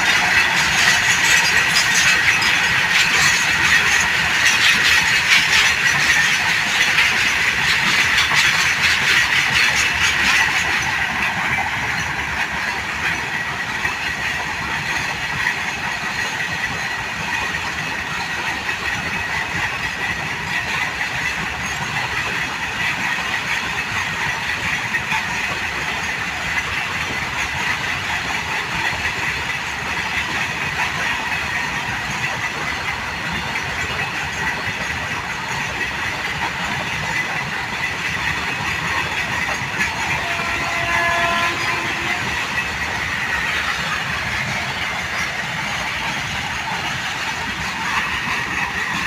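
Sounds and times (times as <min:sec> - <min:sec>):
train running on track: 0:00.0 - 0:49.0.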